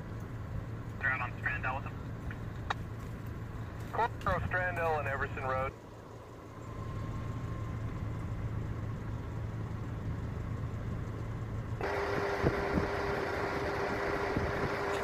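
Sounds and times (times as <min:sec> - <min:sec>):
engine running with whine: 0:00.0 - 0:15.0
vehicle engine idling: 0:00.0 - 0:15.0.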